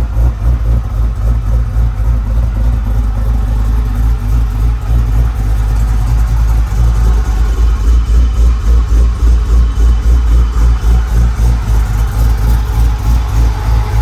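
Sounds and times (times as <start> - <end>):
car engine running unevenly: 0.0 - 14.0.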